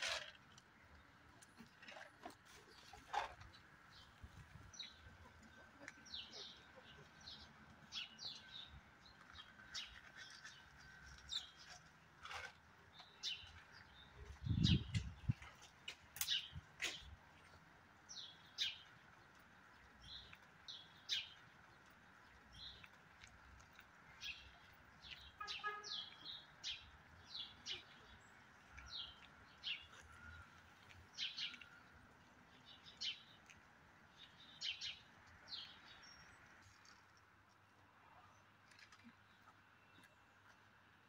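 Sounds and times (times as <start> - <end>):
small birds chirping: 0.7 - 37.4.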